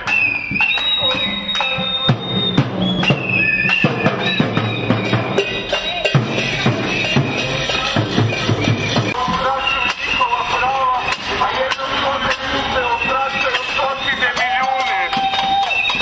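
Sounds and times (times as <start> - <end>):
drumming and rapid banging: 0.0 - 16.0
high steady tones: 0.6 - 16.0.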